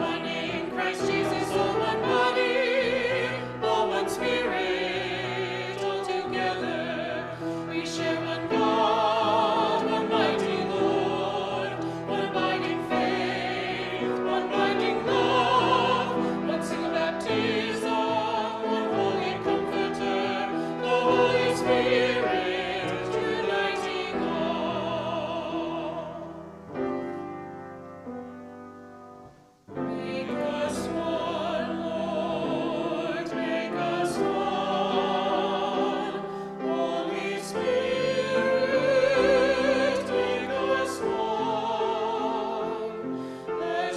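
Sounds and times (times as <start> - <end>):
hymn sung with vibrato: 0.0 - 26.5, 29.8 - 43.9
piano accompaniment: 0.0 - 43.9.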